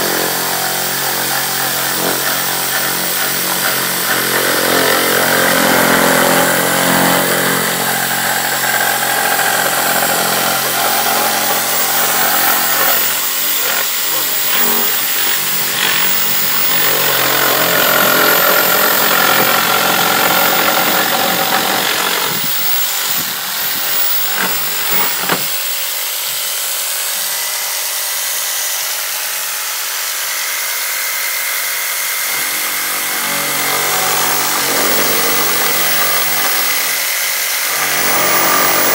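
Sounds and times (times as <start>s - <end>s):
reciprocating saw cutting wood: 0.0s - 38.9s.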